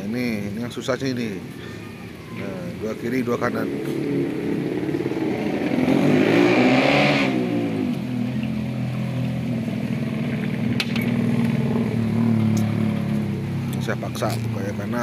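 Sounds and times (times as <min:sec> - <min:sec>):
vehicle engine running: 0:02.7 - 0:15.0.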